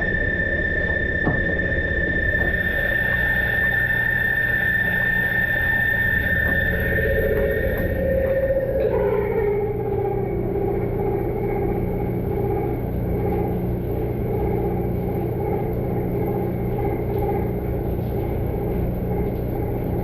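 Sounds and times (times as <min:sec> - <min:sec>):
low hum: 0:00.0 - 0:20.0
machine motors whining: 0:00.0 - 0:20.0.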